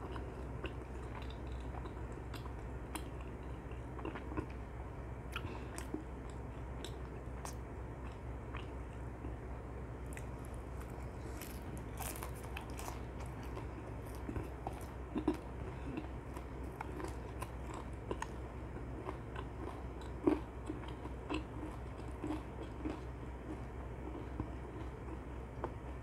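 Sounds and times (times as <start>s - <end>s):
chewing crispy fried chicken: 0.0s - 26.0s.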